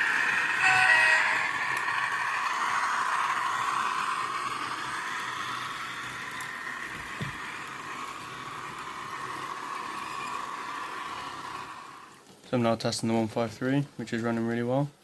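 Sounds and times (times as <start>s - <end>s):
model locomotive whirring: 0.0s - 12.4s.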